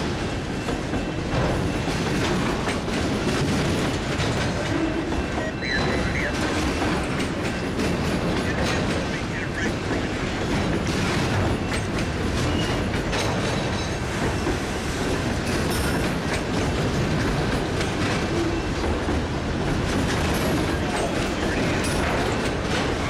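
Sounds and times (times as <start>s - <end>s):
steel wheels rumbling on rail: 0.0s - 23.0s
wheels clickety-clack over track: 0.0s - 23.0s.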